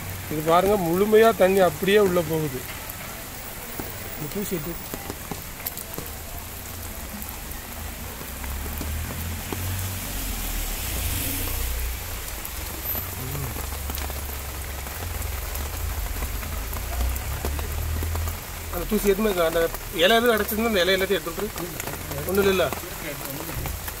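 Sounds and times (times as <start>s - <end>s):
rain on wet concrete: 0.0s - 24.0s.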